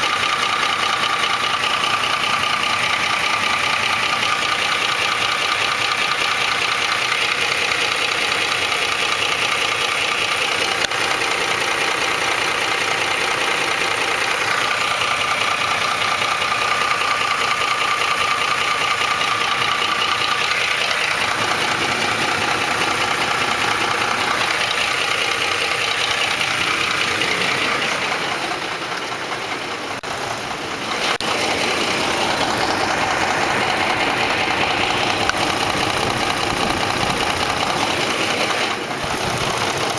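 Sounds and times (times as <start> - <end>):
engine idling with ticking knock: 0.0 - 39.9.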